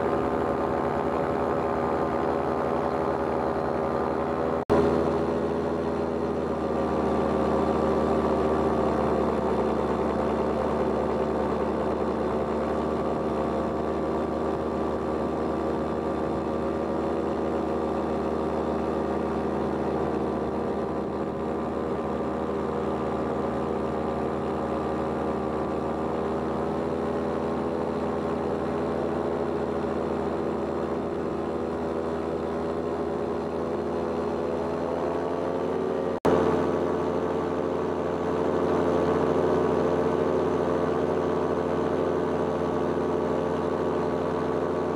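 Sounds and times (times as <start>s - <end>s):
paramotor engine and propeller drone: 0.0s - 44.9s.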